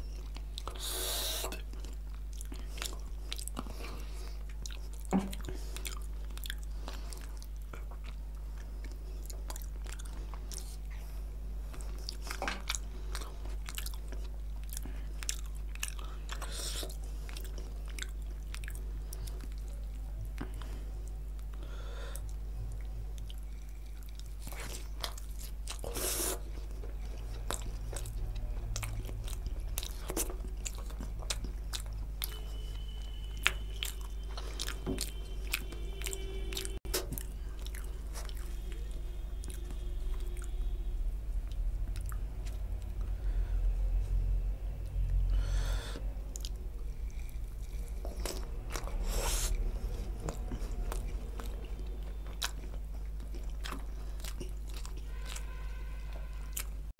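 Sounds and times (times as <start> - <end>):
chewing with wet mouth clicks: 0.0 - 40.7, 41.4 - 43.1, 45.9 - 56.8
steady low hum: 0.0 - 56.9.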